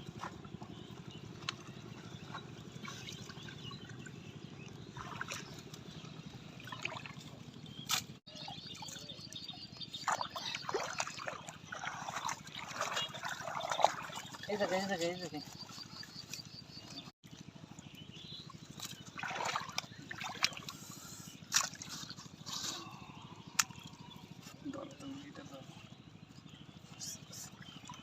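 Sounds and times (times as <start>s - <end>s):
water trickling in river: 0.0s - 28.0s.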